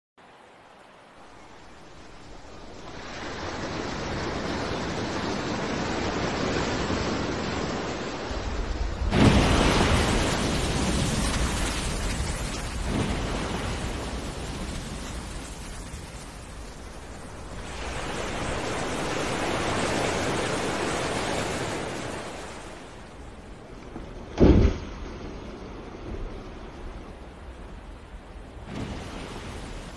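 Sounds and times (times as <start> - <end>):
sea waves: 0.2 - 29.9.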